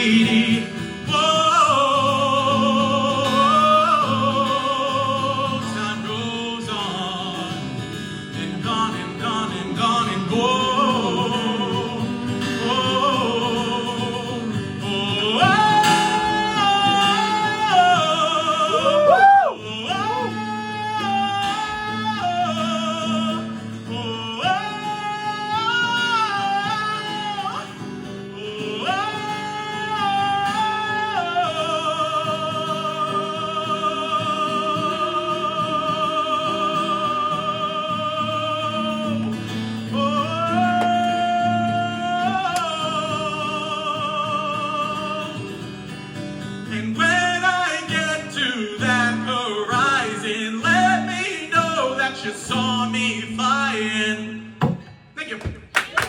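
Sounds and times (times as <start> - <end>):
wordless singing with vibrato: 0.0 - 55.7.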